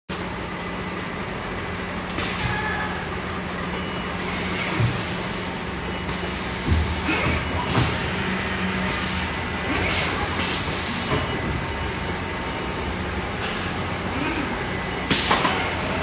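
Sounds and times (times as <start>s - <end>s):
conveyor machinery humming: 0.1s - 16.0s.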